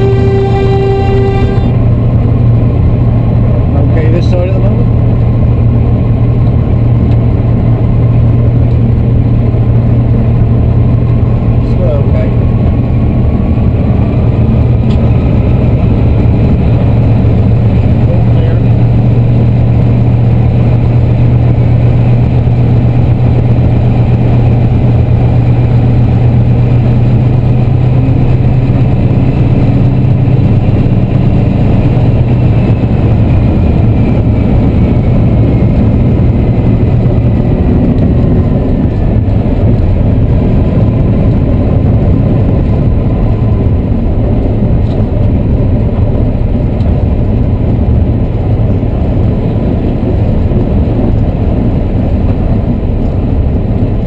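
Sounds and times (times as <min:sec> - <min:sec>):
high whine gliding down: 0:00.0 - 0:02.8, 0:12.9 - 0:54.0
diesel locomotive engine drone: 0:00.0 - 0:54.0.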